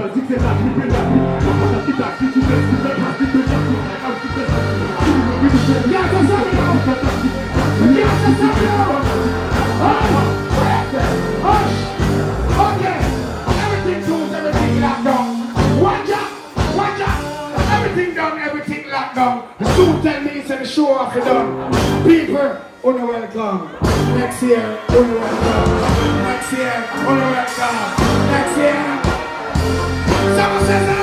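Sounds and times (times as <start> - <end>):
person singing: 0.0 - 18.2, 23.8 - 31.0
bass-heavy dancehall beat: 0.0 - 31.0.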